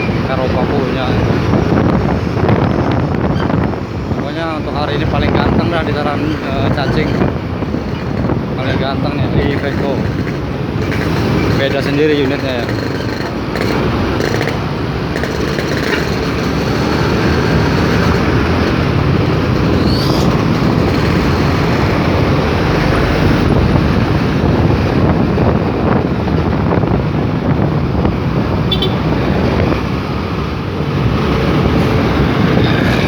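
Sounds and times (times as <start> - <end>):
vehicles driving on road: 0.0 - 33.0
wind: 0.0 - 33.0.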